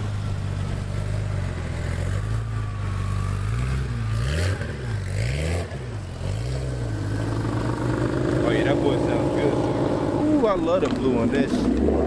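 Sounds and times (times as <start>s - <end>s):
sports car engine idling and revving: 0.0s - 12.0s.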